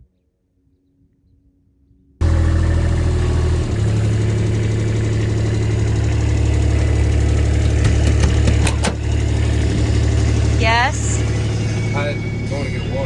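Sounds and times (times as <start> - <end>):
vehicle engine idling: 2.2 - 13.0.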